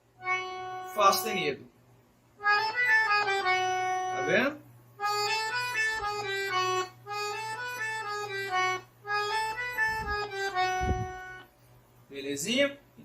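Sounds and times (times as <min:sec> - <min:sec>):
accordion melody: 0:00.0 - 0:01.5, 0:02.4 - 0:11.5.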